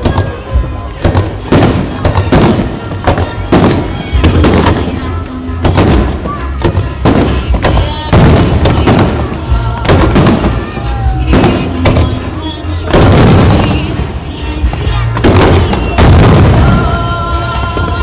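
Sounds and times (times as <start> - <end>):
fireworks bursting: 0.0 - 18.0
music playing: 0.0 - 18.0.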